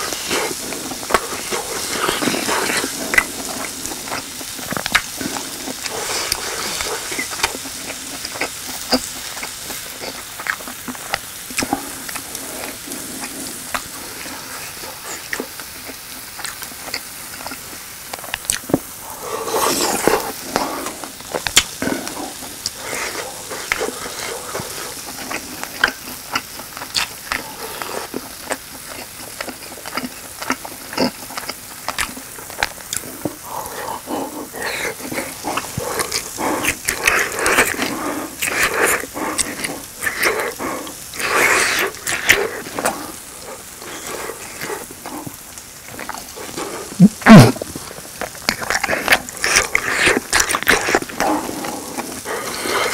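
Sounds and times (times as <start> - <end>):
cheese sizzling on grill pan: 0.0 - 52.9
close-up chewing: 0.0 - 52.9.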